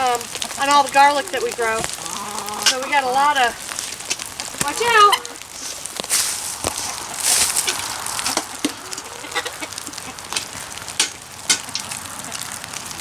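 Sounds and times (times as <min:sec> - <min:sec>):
hens clucking: 0:00.0 - 0:12.6
raindrops tapping: 0:00.0 - 0:13.0
steady rain hiss: 0:00.0 - 0:13.0.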